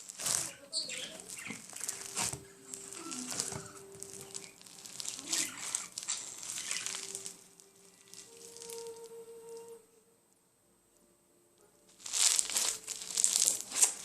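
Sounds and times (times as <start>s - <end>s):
slime crackling and squishing: 0.0s - 9.2s, 11.9s - 14.0s.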